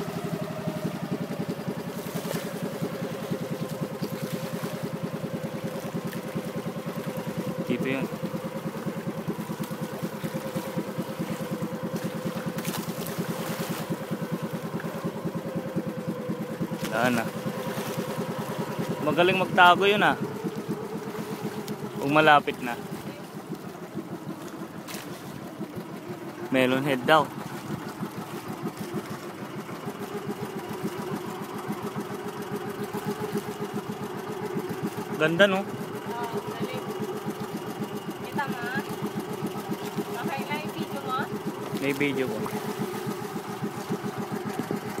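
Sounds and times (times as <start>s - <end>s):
boat engine chugging: 0.0s - 45.0s.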